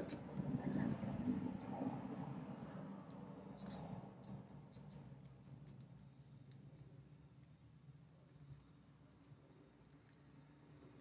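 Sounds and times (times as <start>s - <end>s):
padlock wheel clicking: 0.0s - 11.0s.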